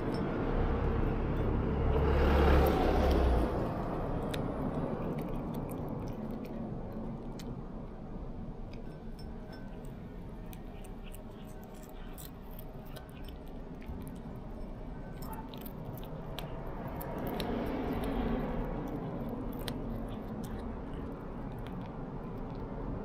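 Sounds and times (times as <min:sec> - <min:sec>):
cat crunching dried fish: 0:00.0 - 0:23.0
low background rumble: 0:00.0 - 0:23.0.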